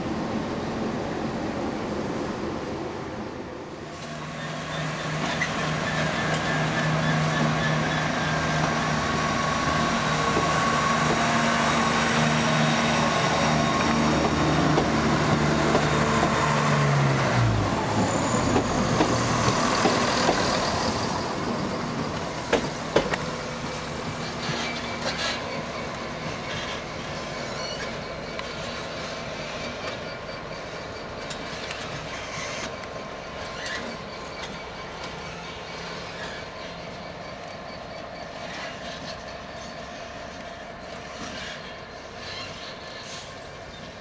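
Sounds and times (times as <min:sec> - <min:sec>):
diesel train engine humming: 0:00.0 - 0:44.0
rolling rail noise: 0:00.0 - 0:44.0.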